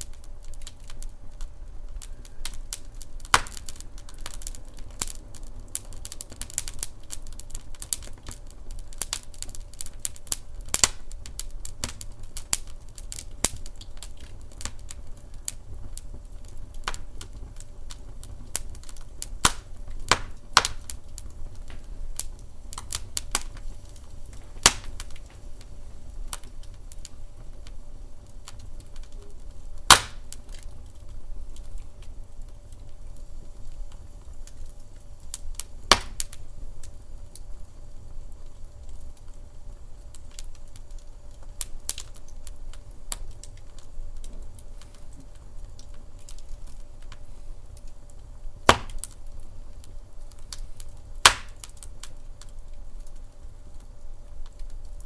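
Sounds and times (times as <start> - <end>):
low rumble of fire: 0.0 - 55.0
sharp fire pops: 0.0 - 55.0
wood fire crackling: 0.0 - 55.0.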